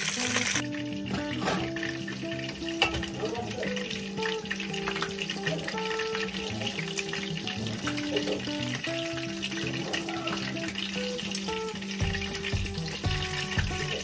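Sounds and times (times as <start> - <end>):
cutlets sizzling in hot oil: 0.0 - 14.0
soft background music: 0.0 - 14.0.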